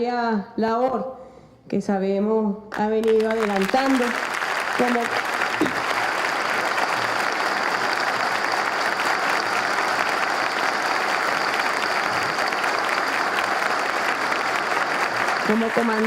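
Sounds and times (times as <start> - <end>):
audience applauding: 3.0 - 16.0.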